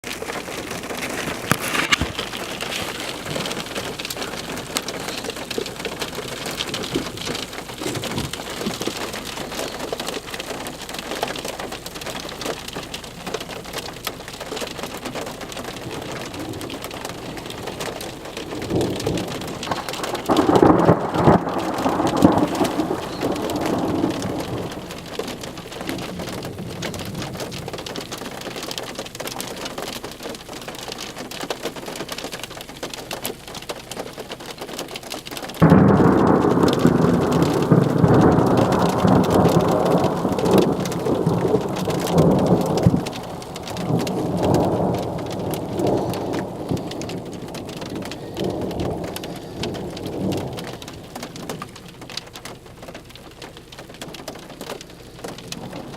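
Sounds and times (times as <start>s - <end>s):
thunder rumbling: 0.0s - 29.9s, 35.4s - 55.9s
rain on a hard surface: 0.0s - 55.9s.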